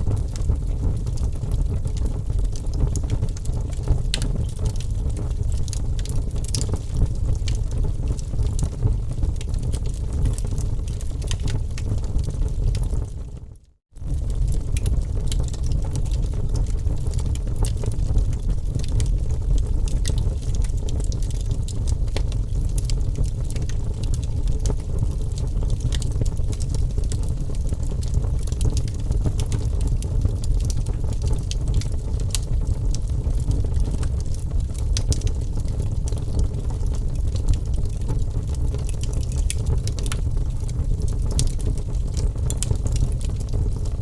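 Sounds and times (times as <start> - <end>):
low rumble of flames: 0.0 - 44.0
wood fire crackling and popping: 0.0 - 44.0.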